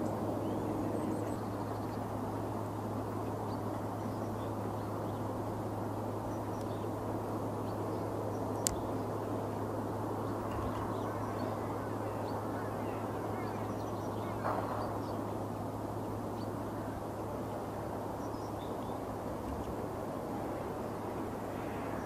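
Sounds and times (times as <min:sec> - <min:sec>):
small bird calls: 0:00.0 - 0:09.1, 0:10.2 - 0:19.8
steady distant roar: 0:00.0 - 0:22.0.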